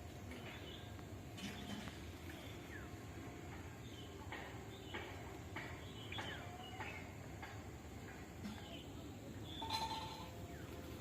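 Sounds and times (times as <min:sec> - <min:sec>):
birds chirping: 0:00.0 - 0:11.0
low background hum: 0:00.0 - 0:11.0.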